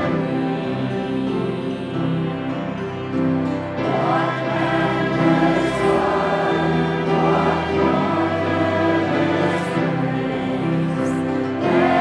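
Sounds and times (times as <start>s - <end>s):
church choir gospel song: 0.0s - 12.0s.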